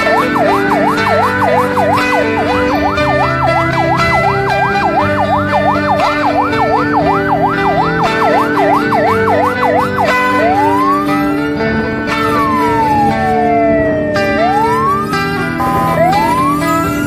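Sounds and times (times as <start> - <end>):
electronic yelp siren: 0.0 - 17.0
music: 0.0 - 17.0.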